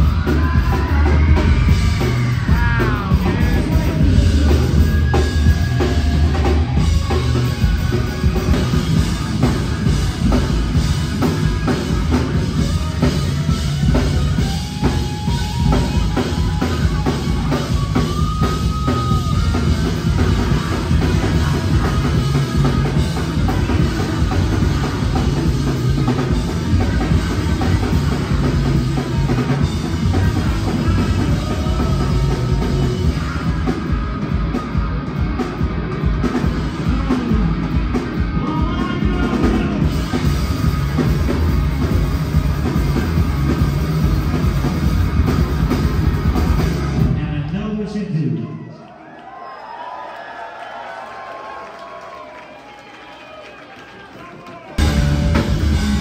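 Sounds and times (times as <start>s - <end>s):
live rock band playing: 0.0s - 47.4s, 54.8s - 56.0s.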